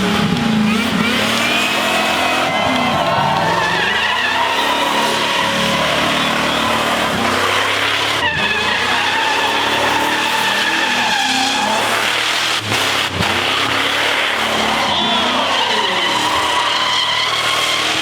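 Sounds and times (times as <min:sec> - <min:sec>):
car engine at high revs: 0:00.0 - 0:18.0
tyres squealing: 0:00.0 - 0:18.0.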